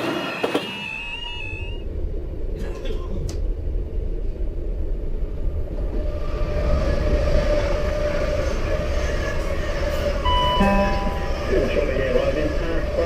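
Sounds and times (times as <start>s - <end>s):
train rumble and hiss: 0.0s - 13.0s
faint steady whine: 1.0s - 13.0s.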